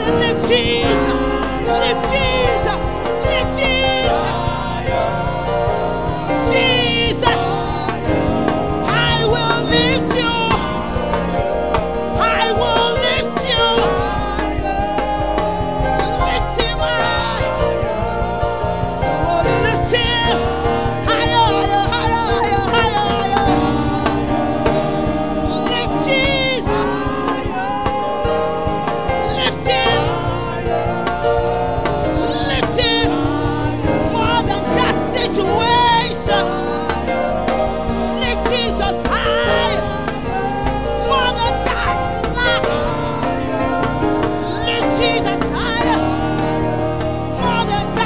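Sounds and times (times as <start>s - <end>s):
band playing guitar bass drums: 0.0s - 48.0s
people singing gospel: 0.0s - 48.0s.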